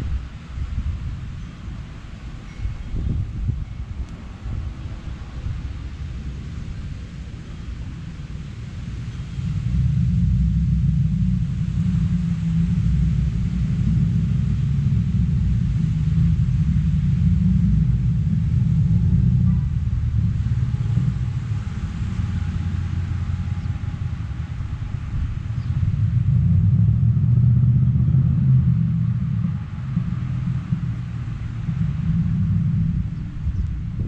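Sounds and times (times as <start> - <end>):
loud low rumble: 0.0 - 34.0.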